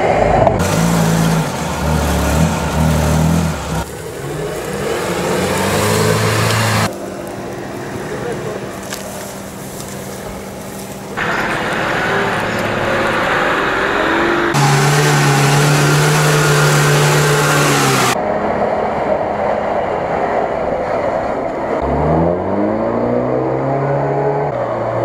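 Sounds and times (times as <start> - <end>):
off-road engines working hard: 0.0 - 25.0.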